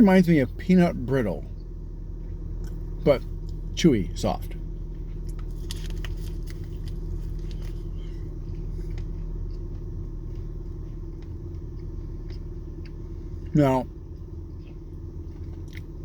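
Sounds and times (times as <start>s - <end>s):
steady low hum: 0.0s - 16.0s
person chewing granola bar: 2.0s - 3.6s, 4.5s - 16.0s.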